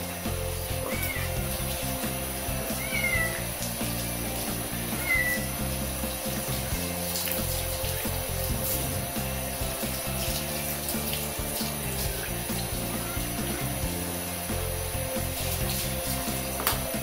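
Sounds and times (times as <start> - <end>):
background music with bass: 0.0 - 17.0
shower spraying water: 0.0 - 17.0.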